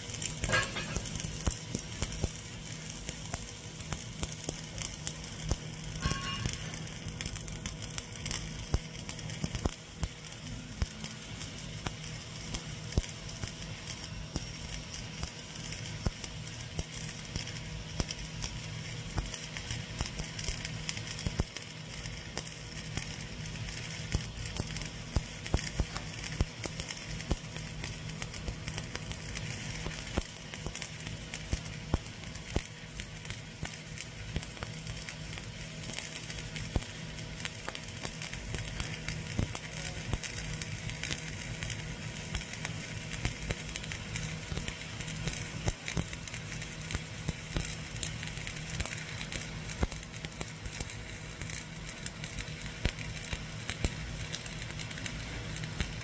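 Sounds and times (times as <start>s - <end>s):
welding arc crackling: 0.0s - 56.0s.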